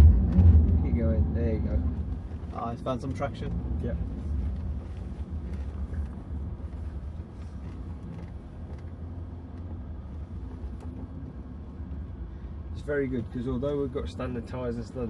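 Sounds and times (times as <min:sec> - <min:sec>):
car engine drone from inside: 0:00.0 - 0:15.0.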